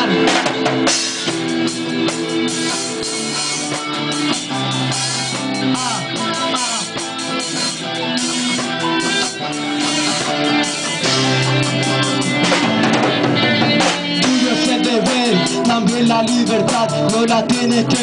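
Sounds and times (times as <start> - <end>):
drum kit steady beat: 0.0 - 18.0
guitars: 0.0 - 18.0.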